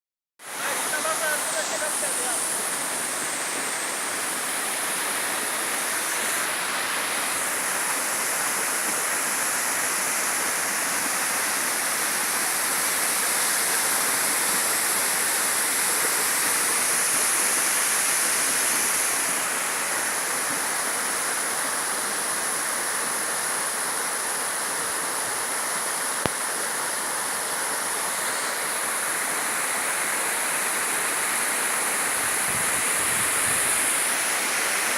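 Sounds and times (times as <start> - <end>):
running water rushing: 0.4 - 34.9.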